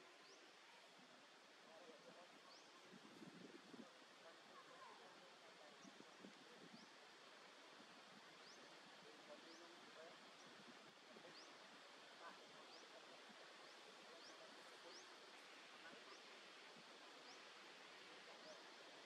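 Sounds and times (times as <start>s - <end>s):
soft outdoor hiss: 0.0s - 19.0s.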